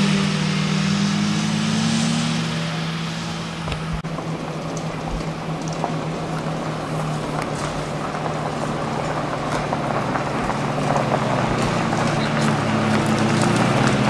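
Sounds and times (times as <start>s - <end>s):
car engines idling: 0.0s - 14.0s.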